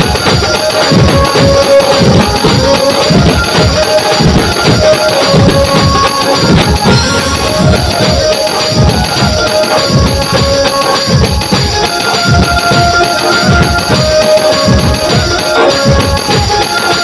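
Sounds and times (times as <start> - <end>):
large drums beaten with sticks: 0.0 - 17.0
melody of long held notes: 0.0 - 17.0
metallic jingle: 0.0 - 17.0.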